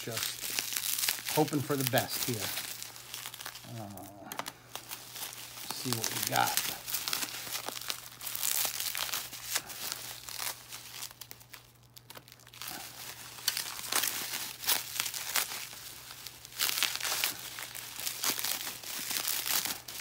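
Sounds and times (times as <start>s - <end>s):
bubble wrap crinkling: 0.0s - 20.0s.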